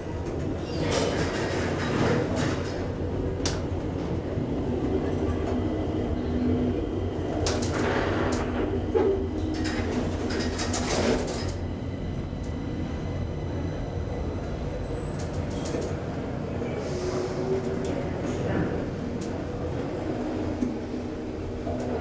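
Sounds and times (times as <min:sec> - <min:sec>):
elevator humming in shaft: 0:00.0 - 0:22.0.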